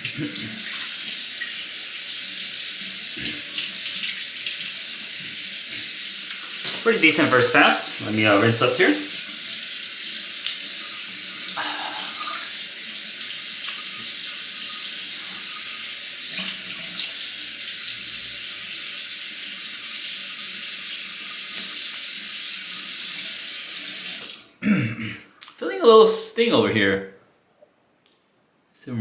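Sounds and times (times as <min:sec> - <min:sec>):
sink tap running: 0:00.0 - 0:24.5.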